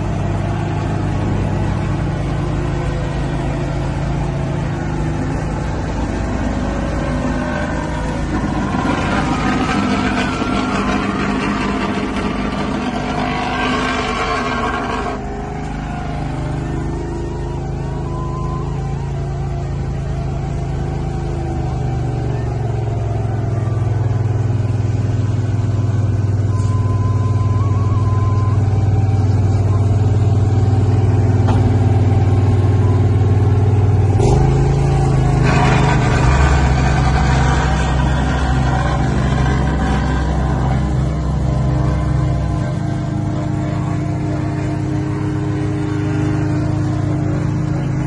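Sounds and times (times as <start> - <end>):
harsh loud machine sound: 0.0 - 26.4, 29.3 - 48.0
paving machinery engine hum: 0.0 - 48.0.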